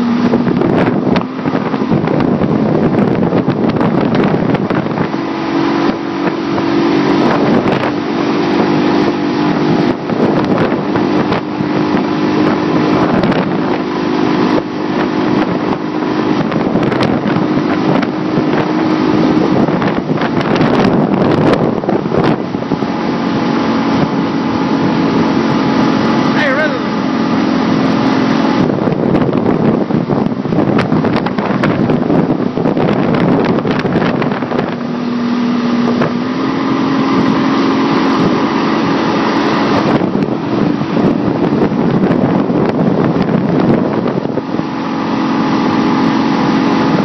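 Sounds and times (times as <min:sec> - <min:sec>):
motorboat engine running: 0:00.0 - 0:47.0
wake water rushing: 0:00.0 - 0:47.0
wind buffeting microphone: 0:00.0 - 0:47.0.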